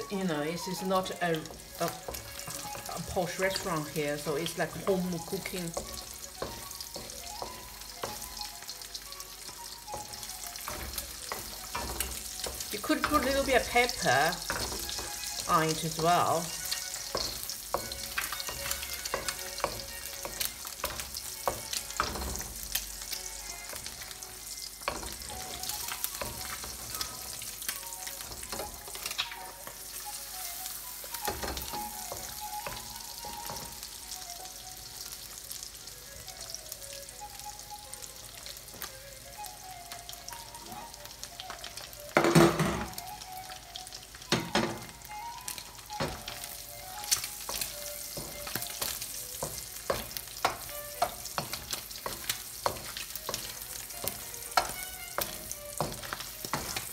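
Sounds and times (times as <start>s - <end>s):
egg sizzling in oil: 0.0s - 56.9s.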